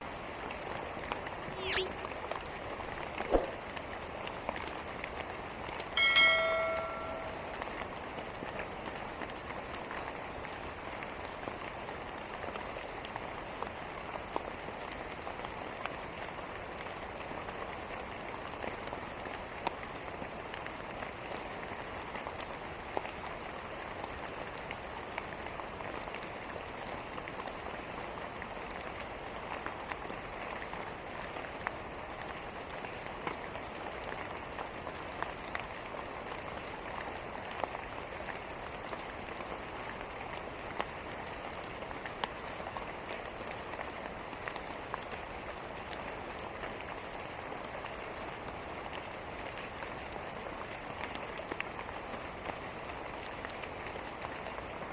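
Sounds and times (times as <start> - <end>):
rain falling: 0.0 - 54.9
raindrop ticks: 0.0 - 54.9.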